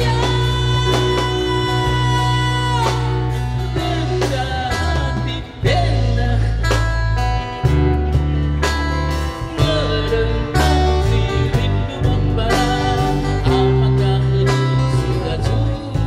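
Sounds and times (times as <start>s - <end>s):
electric guitar: 0.0s - 16.0s
heavy low accompaniment: 0.0s - 16.0s
man singing rock ballad: 0.0s - 16.0s.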